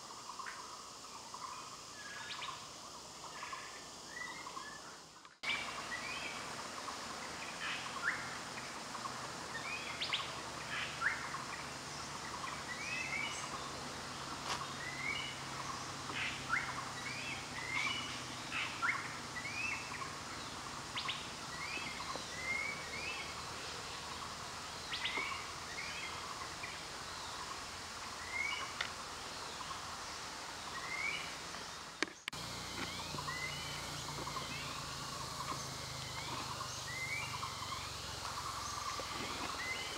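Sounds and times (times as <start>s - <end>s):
background hiss: 0.0s - 39.9s
birds chirping: 0.1s - 39.9s.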